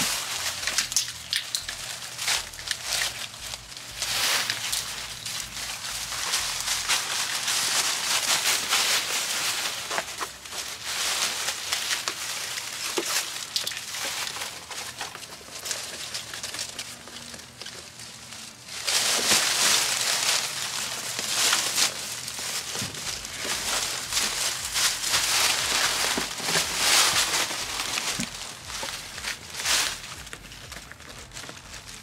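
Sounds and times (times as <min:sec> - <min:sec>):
dry leaves crackling and rustling: 0:00.0 - 0:32.0.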